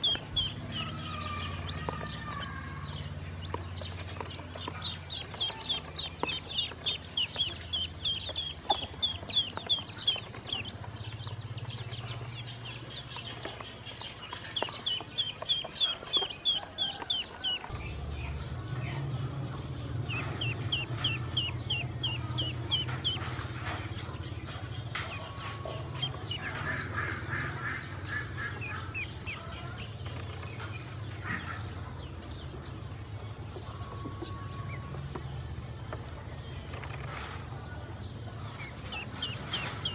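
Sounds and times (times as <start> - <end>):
ducklings and chicks peeping: 0.0 - 39.9.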